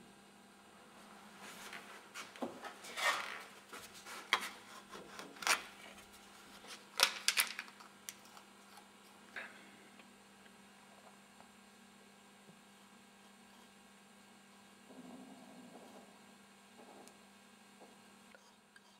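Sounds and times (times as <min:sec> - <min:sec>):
steady mains hum: 0:00.0 - 0:18.9.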